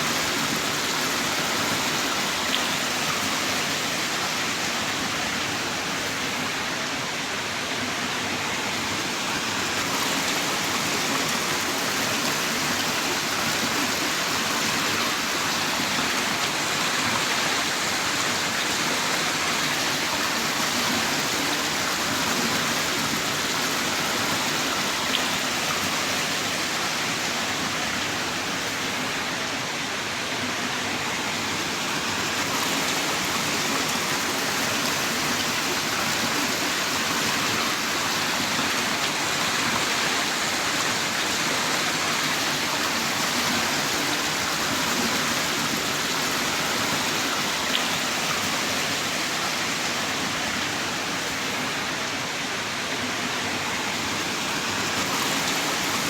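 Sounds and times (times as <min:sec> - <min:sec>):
heavy rain downpour: 0:00.0 - 0:56.0.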